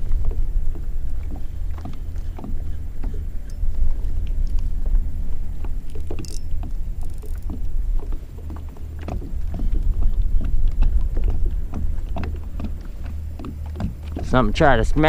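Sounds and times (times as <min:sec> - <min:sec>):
water lapping against kayak hull: 0:00.0 - 0:15.0
wind buffeting microphone: 0:00.0 - 0:15.0.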